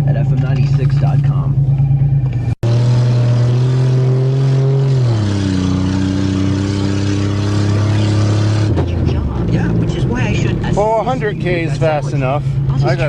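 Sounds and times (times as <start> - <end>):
car engine from inside cabin: 0.0 - 13.0.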